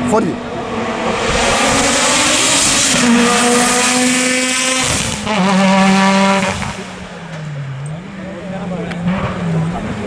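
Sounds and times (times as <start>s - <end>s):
race car engine at high revs: 0.0s - 10.0s.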